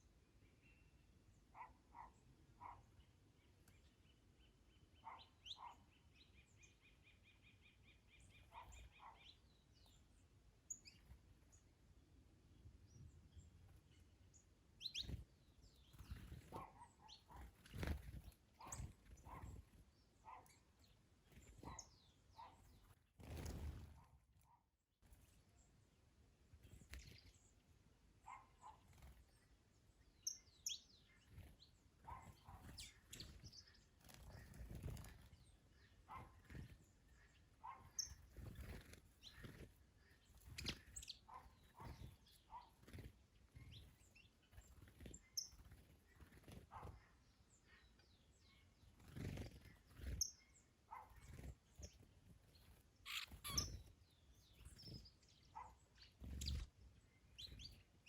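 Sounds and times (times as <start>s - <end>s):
birds chirping: 0.0s - 24.5s, 25.2s - 58.0s.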